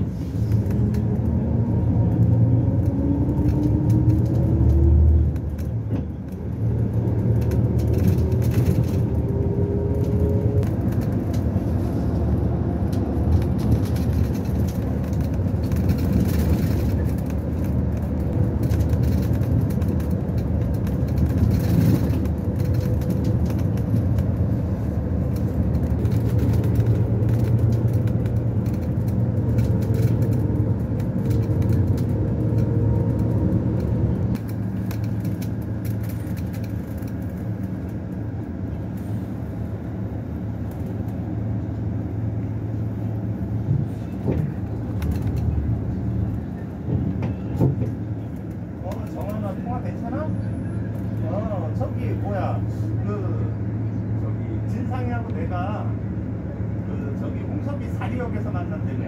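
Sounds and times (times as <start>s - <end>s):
engine and tyre rumble: 0.0s - 59.0s.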